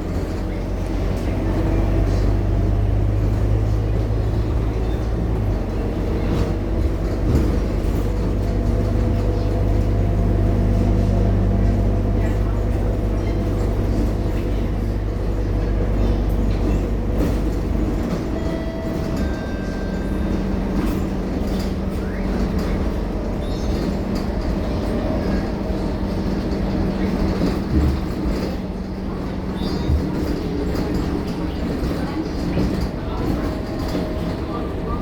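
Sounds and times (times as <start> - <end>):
bus diesel engine drone: 0.0 - 35.0.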